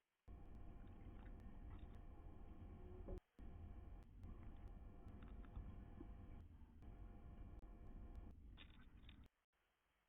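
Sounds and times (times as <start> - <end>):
faint low hum: 0.2 - 9.3.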